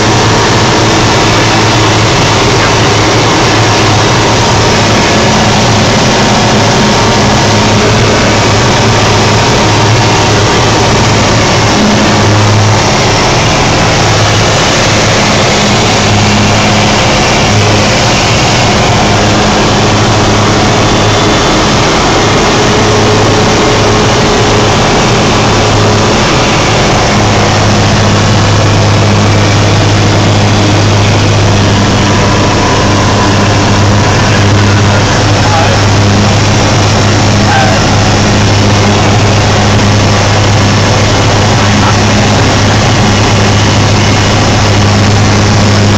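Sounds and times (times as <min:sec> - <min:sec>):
propeller aircraft engine drone: 0:00.0 - 0:45.9.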